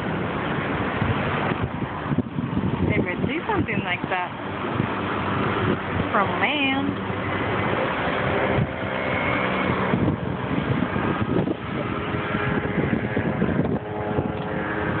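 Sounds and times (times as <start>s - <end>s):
engine humming steadily: 0.0s - 15.0s
wind noise on microphone: 0.0s - 15.0s.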